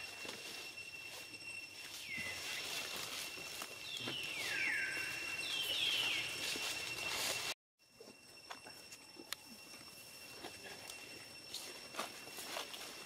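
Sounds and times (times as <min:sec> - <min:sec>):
steady high whine: 0:00.0 - 0:13.0.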